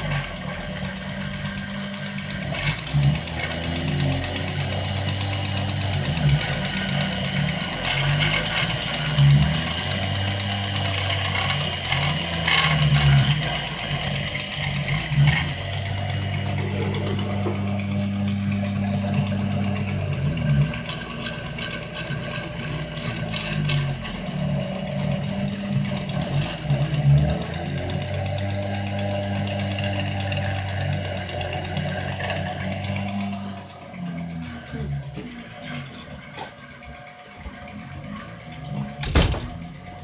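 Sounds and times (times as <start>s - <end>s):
quilting machine mechanical hum: 0.0s - 40.0s.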